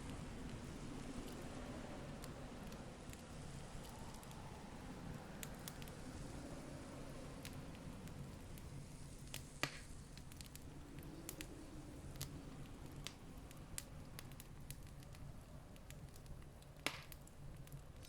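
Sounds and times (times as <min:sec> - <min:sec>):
campfire crackling: 0:00.0 - 0:18.0
campfire pops: 0:02.2 - 0:06.1, 0:07.4 - 0:18.0.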